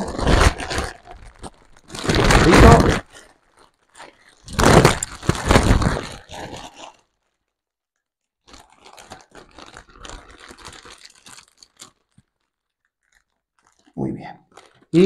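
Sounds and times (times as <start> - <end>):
foil cap crinkling: 0.0 - 7.6, 8.4 - 15.0.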